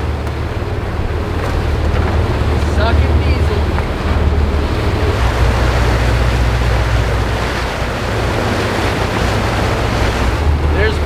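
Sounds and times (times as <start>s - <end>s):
boat diesel engines rumbling: 0.0s - 11.0s
wake rushing: 0.0s - 11.0s
wind buffeting microphone: 0.0s - 11.0s.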